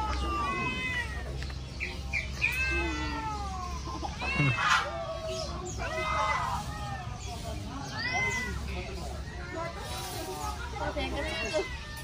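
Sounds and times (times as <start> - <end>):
cats meowing: 0.0 - 9.0, 11.0 - 12.0.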